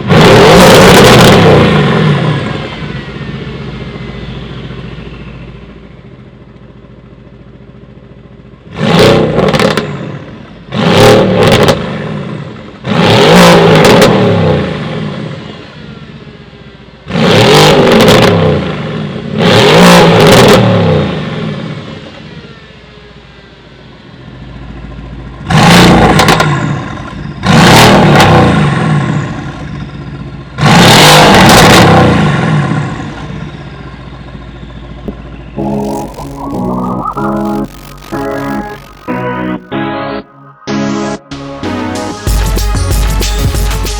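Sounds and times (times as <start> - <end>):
car engine idling and revving: 0.0 - 40.7.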